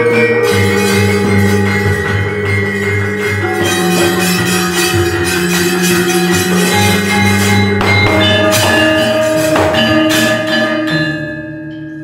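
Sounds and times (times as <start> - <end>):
gamelan playing: 0.0 - 12.0.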